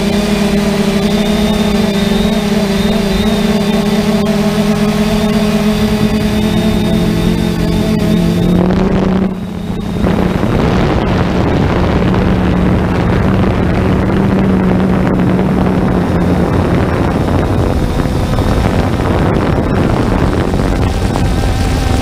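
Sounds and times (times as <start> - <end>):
drone propellers buzzing: 0.0 - 22.0
wind noise: 0.0 - 22.0.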